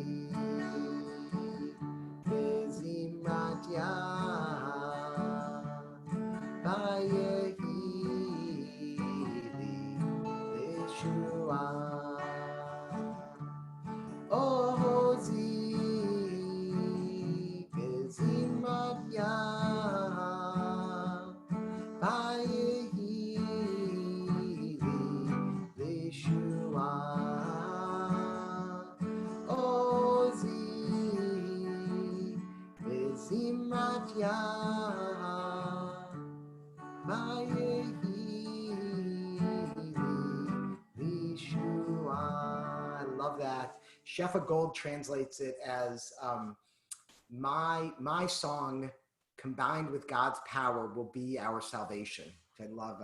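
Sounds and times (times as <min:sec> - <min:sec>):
man singing: 0:00.0 - 0:13.4, 0:14.3 - 0:36.2, 0:37.0 - 0:46.5, 0:47.3 - 0:48.9
acoustic guitar strumming: 0:00.0 - 0:45.8.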